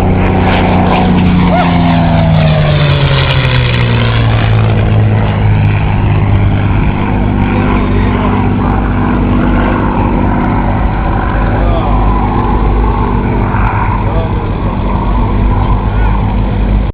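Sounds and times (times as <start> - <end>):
propeller plane passing by: 0.0 - 16.9.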